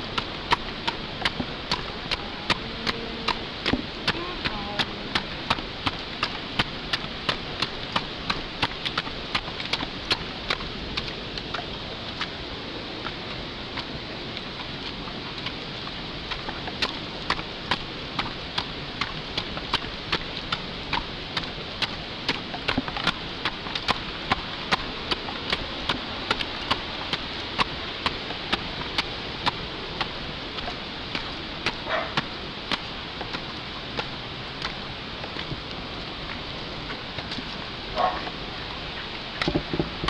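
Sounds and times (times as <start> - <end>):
steady rushing noise: 0.0 - 40.0.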